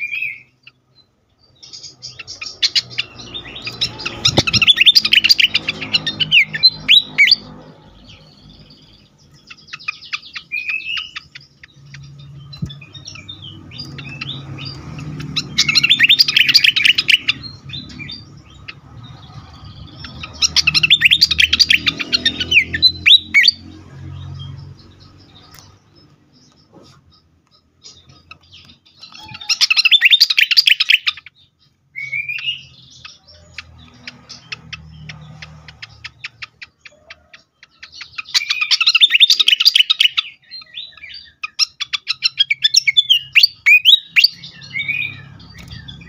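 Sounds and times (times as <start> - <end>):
bird chirps and trills: 0.0 - 46.0.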